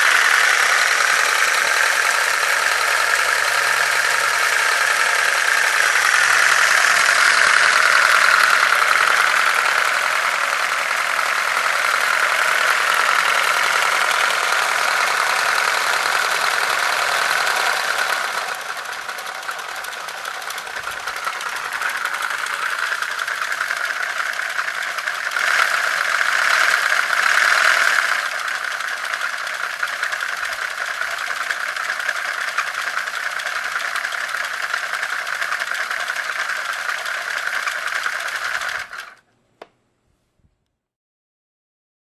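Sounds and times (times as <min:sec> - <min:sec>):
plastic engine model rattling: 0:00.0 - 0:39.3.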